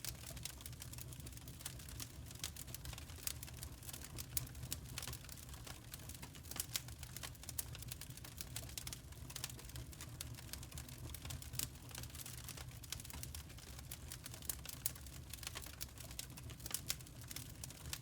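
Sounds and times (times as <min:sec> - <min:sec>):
firewood crackling: 0:00.0 - 0:18.0.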